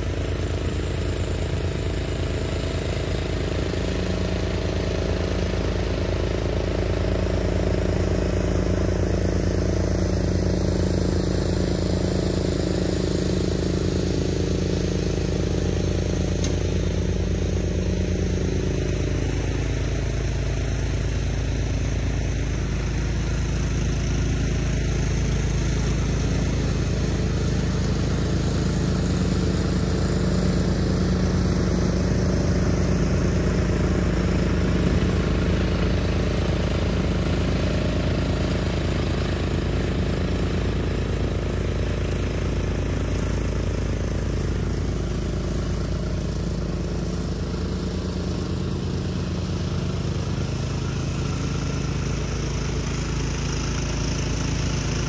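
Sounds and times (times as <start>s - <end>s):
lawn mower cutting grass: 0.0s - 55.0s.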